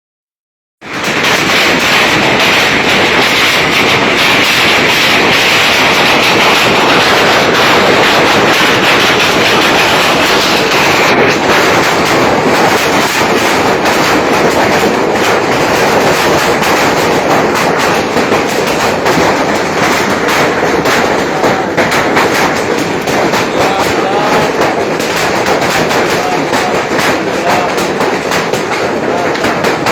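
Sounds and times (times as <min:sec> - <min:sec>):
heavy rain downpour: 0:00.8 - 0:29.9
sharp raindrop patters: 0:00.8 - 0:29.9.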